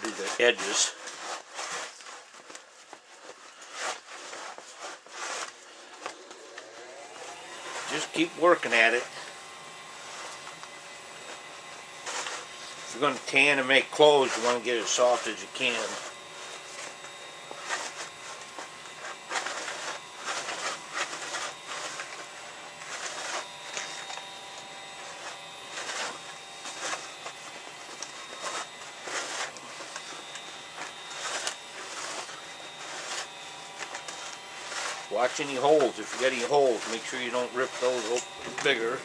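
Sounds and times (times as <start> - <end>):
hide rasping over tool: 3.5 - 39.0.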